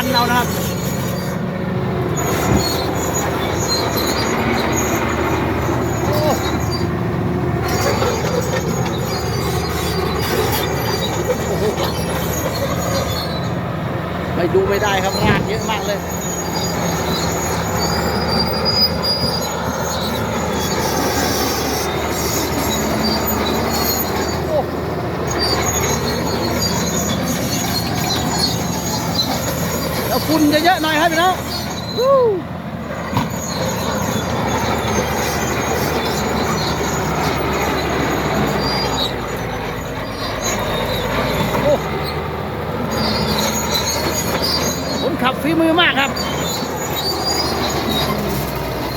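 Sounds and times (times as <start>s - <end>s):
bulldozer diesel engine running hard: 0.0s - 48.9s
steel tracks squealing: 0.0s - 48.9s.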